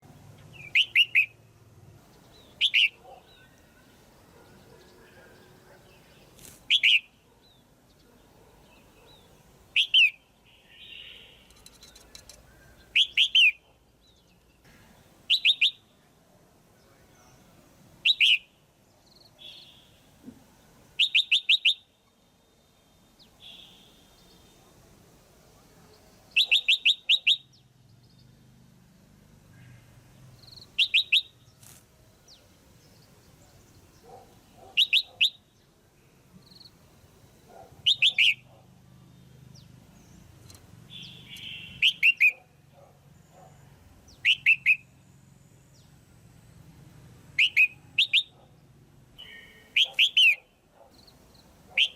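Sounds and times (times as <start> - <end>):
bird chirping: 0.0 - 16.2, 16.8 - 20.2, 21.0 - 24.8, 25.6 - 28.7, 29.5 - 51.9.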